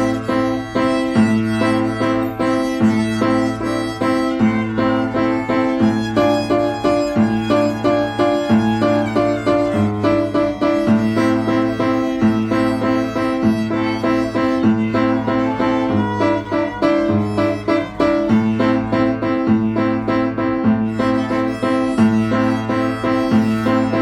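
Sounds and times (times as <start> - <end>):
piano: 0.0 - 24.0
violin: 0.0 - 24.0.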